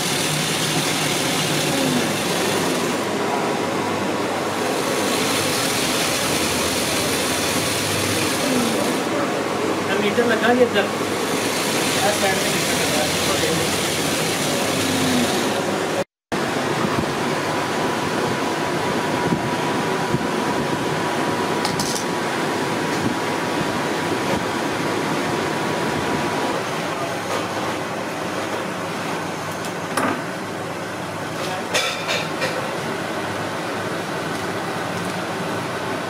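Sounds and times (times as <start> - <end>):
workshop machinery hum and hiss: 0.0 - 36.0.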